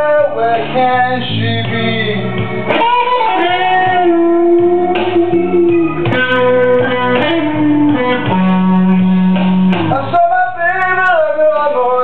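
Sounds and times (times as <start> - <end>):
backing track: 0.0 - 12.0
electric guitar blues lead: 0.0 - 12.0.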